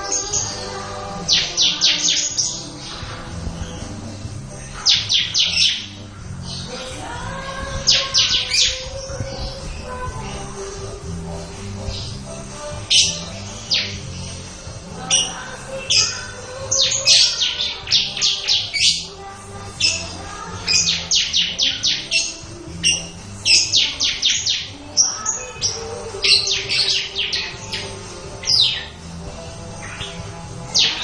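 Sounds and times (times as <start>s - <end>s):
bird singing rapid notes: 0.0s - 31.0s.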